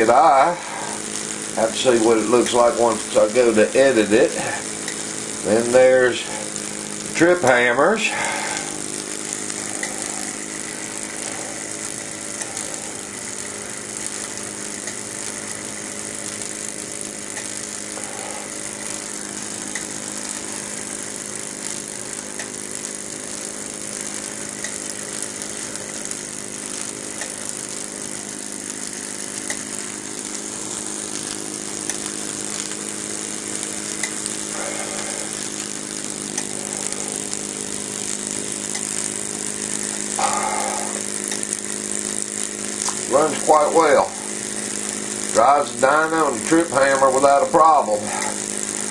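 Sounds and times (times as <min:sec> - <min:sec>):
miniature steam engine whirring hum: 0:00.0 - 0:48.9
steam hiss: 0:00.0 - 0:48.9.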